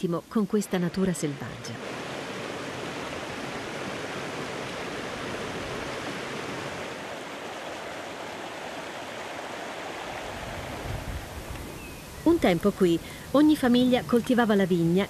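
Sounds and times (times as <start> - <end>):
stream rushing over rocks: 0.8 - 14.4.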